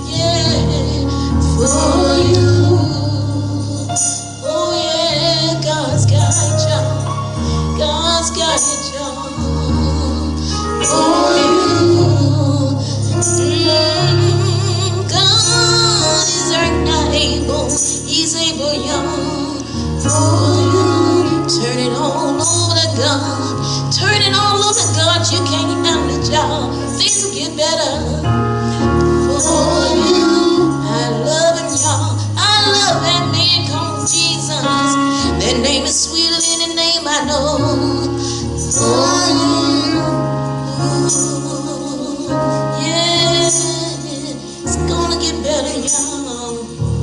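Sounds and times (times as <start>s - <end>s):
voices singing gospel: 0.0s - 46.8s
band playing: 0.0s - 47.0s
bass line: 0.0s - 47.0s.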